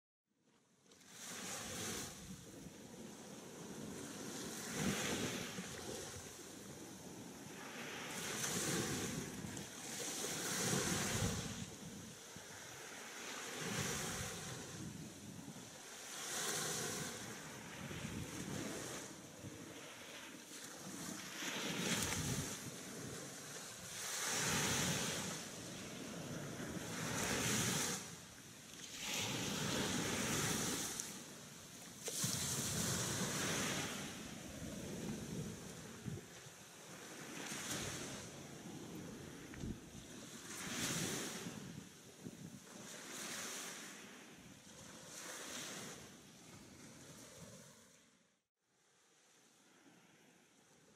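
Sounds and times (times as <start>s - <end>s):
sea waves washing onto beach: 1.0s - 48.0s.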